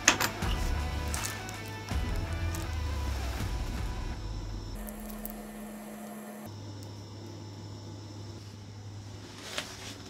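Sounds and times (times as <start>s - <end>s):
steady low hum: 0.4s - 10.0s.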